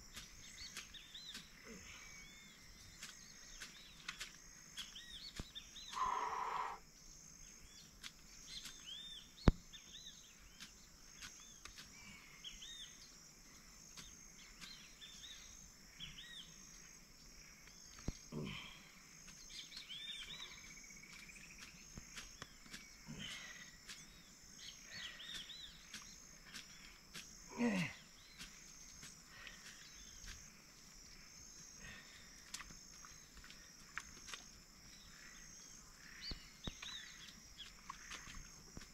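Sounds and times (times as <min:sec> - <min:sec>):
bird chirps: 0:00.0 - 0:16.9, 0:19.2 - 0:38.9
high-pitched insect chorus: 0:00.0 - 0:38.9.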